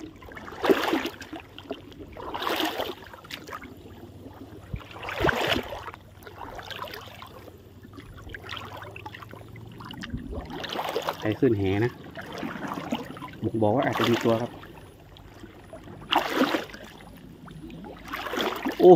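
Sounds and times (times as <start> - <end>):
faint low hum: 0.0 - 18.9
splashing in shallow water: 0.0 - 18.9
water dribbling: 0.0 - 18.9.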